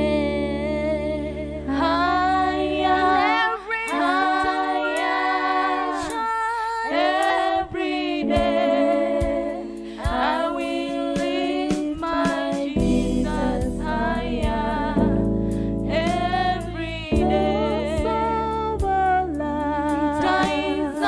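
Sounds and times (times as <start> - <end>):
women singing in harmony: 0.0 - 21.0.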